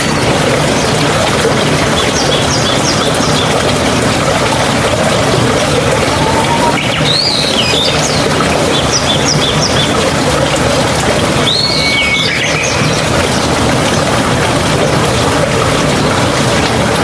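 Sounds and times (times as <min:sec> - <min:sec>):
loud running water: 0:00.0 - 0:17.0.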